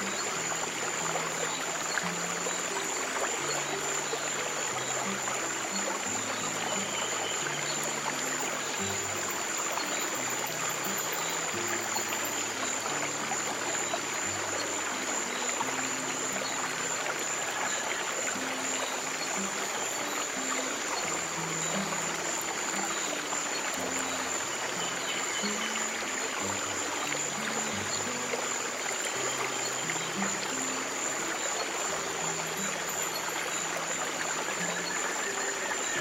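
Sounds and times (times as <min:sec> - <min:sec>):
stream water running: 0:00.0 - 0:36.0.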